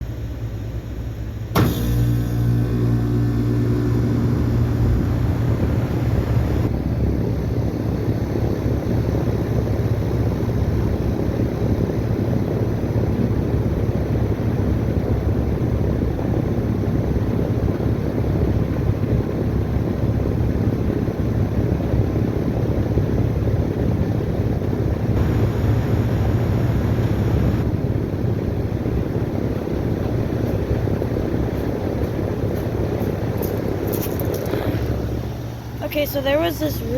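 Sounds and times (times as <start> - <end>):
compressor low hum: 0.0 - 36.9
condenser fan rushing: 0.0 - 36.9.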